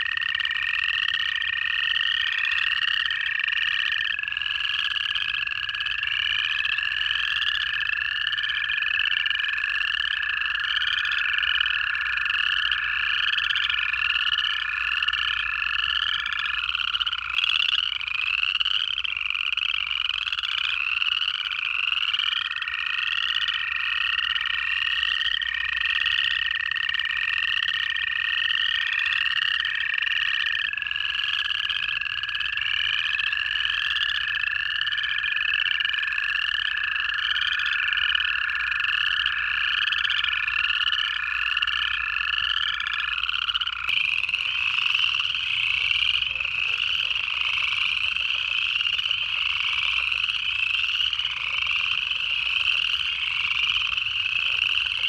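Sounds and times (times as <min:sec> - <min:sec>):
frogs ascending trills: 0:00.0 - 0:55.0
toad steady trills: 0:00.0 - 0:55.0.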